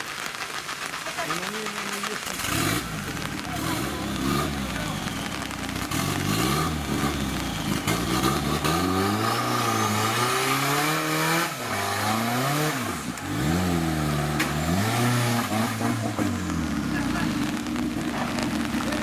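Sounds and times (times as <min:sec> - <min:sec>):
off-road engine revving: 0:02.2 - 0:19.0.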